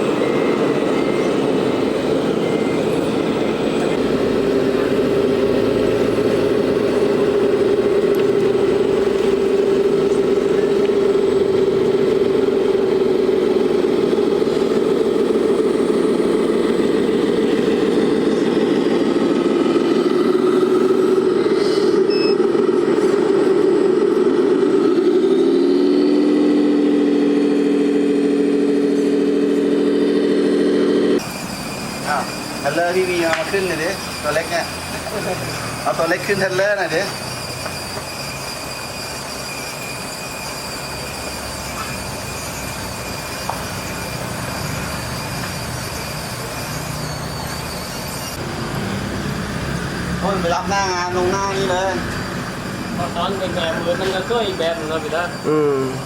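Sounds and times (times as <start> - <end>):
model motor whine and hum: 0.0 - 56.0.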